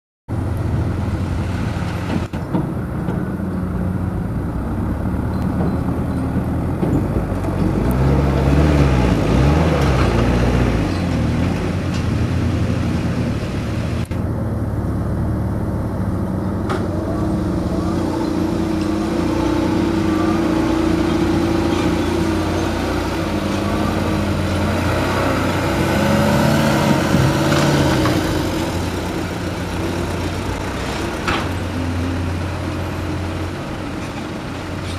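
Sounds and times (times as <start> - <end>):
heavy diesel engines running: 0.3 - 34.9.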